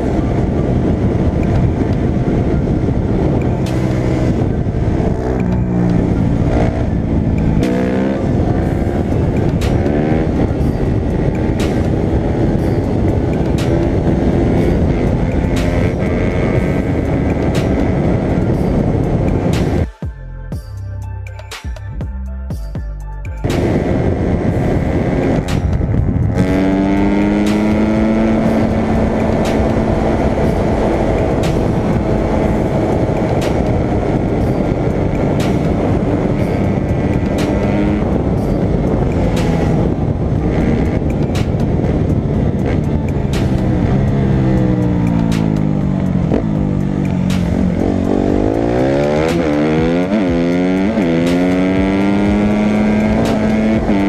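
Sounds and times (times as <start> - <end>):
wind rush: 0.0 - 19.9, 23.4 - 54.0
dirt bike engine revving: 2.6 - 18.6, 23.4 - 54.0.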